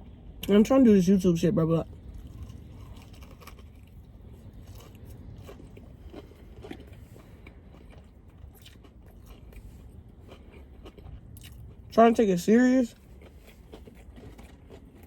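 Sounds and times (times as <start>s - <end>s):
low steady hum: 0.0s - 15.0s
person chewing crunchy food: 1.8s - 12.0s, 12.9s - 15.0s.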